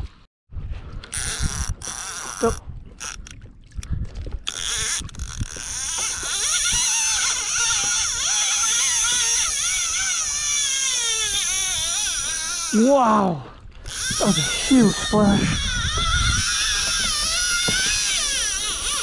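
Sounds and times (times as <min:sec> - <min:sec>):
fishing reel drag screaming: 0:01.1 - 0:03.2, 0:04.5 - 0:12.9, 0:13.8 - 0:19.0
water splashes: 0:01.8 - 0:19.0.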